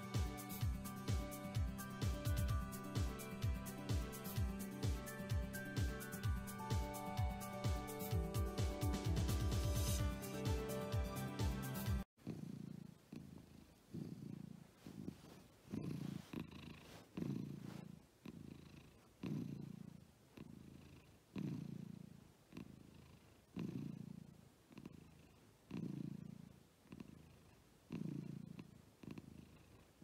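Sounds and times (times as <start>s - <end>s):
cat purring: 0.0s - 10.0s, 12.2s - 30.0s.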